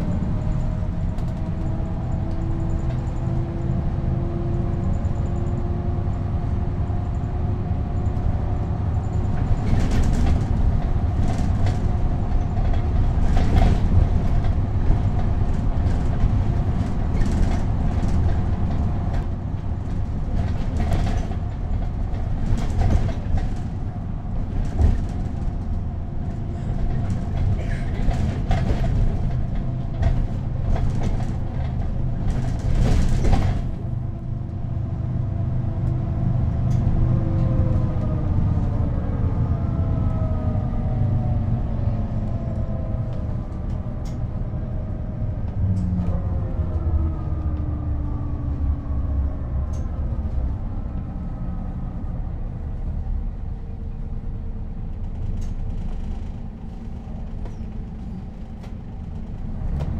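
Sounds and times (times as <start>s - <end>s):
bus engine rumble: 0.0s - 59.9s
bus interior rattling and knocking: 0.0s - 59.9s.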